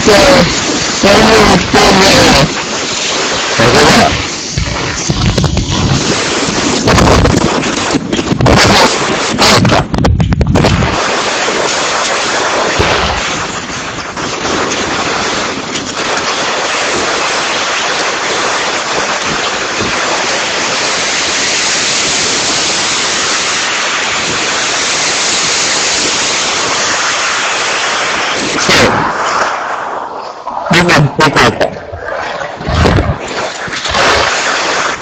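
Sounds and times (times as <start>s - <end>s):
heavy rain rushing: 0.0s - 35.0s
wind buffeting microphone: 0.0s - 35.0s.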